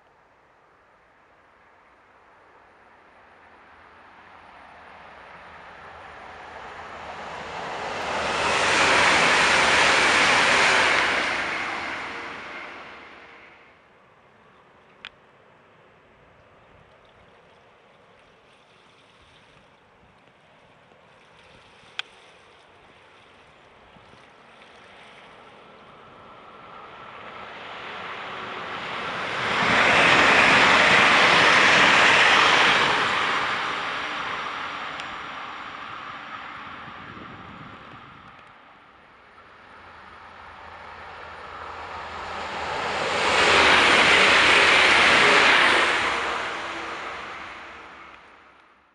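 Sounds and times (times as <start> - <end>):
train passing by: 2.2 - 16.4, 22.7 - 48.9.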